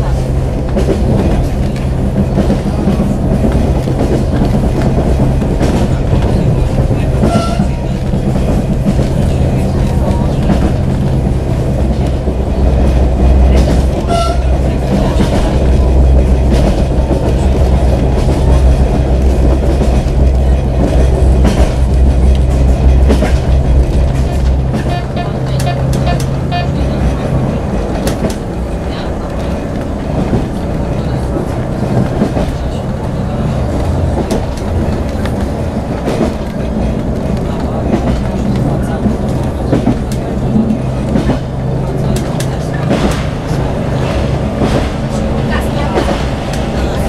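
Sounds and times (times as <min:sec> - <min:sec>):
train rumble and engine hum: 0:00.0 - 0:47.0.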